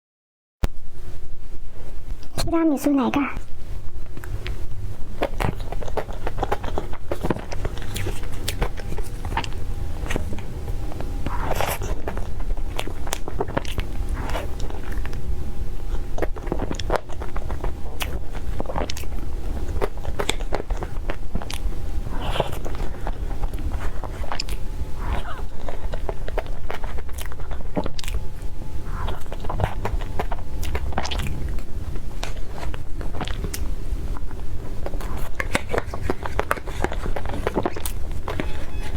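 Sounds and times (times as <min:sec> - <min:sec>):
person biting and chewing: 0:04.1 - 0:38.9.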